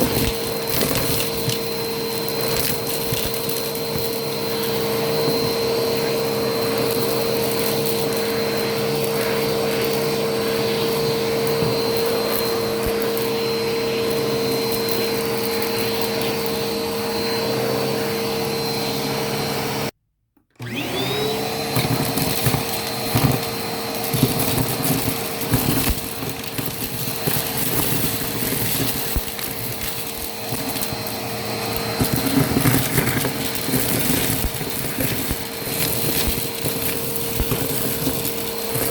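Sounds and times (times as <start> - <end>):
debris crackling in vacuum: 0.0 - 17.0, 21.6 - 38.9
vacuum cleaner motor whine: 0.0 - 20.0, 20.6 - 38.9.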